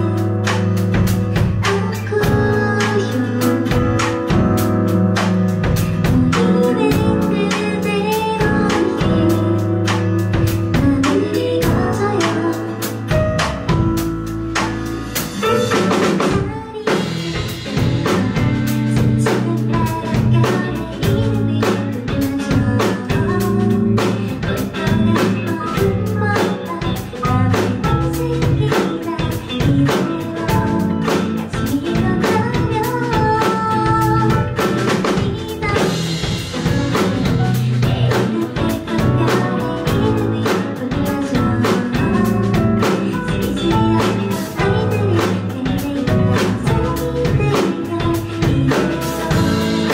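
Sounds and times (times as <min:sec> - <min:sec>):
drum kit with rimshots: 0:00.0 - 0:49.9
live band playing: 0:00.0 - 0:49.9.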